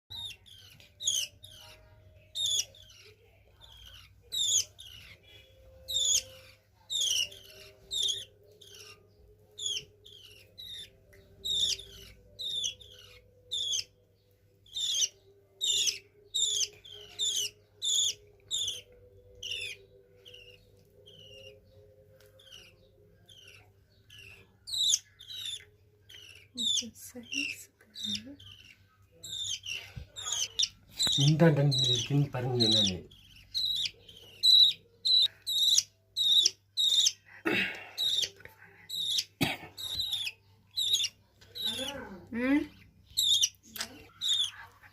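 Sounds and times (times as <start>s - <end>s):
budgies chirping: 0.1s - 44.9s.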